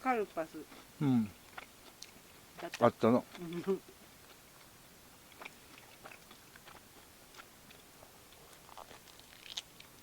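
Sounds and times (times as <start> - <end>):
faint chewing: 0.2 - 10.0.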